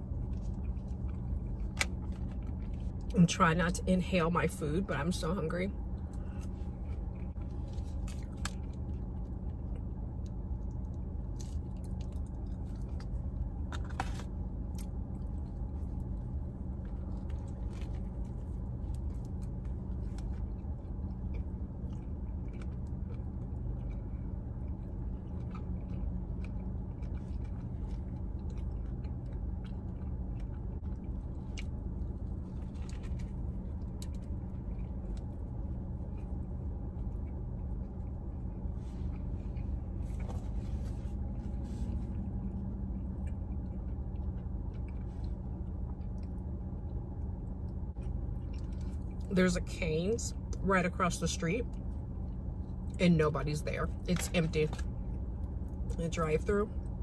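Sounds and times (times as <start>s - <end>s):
person chewing food: 0.0s - 3.1s, 5.9s - 49.3s
low hum inside car: 0.0s - 57.0s.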